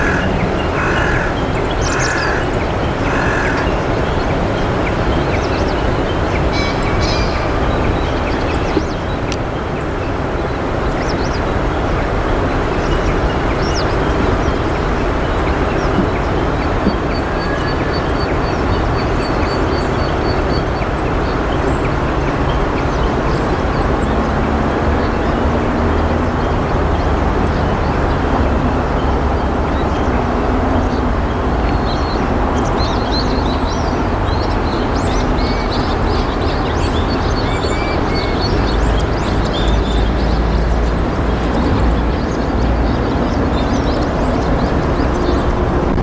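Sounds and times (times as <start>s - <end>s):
flowing water: 0.0s - 46.0s
songbirds chirping: 0.0s - 46.0s.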